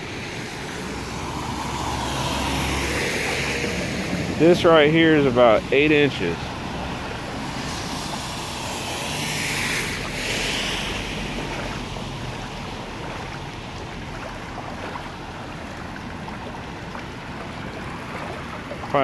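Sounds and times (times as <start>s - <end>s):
water sloshing around wading legs: 0.0s - 19.0s
water splashing: 0.0s - 19.0s.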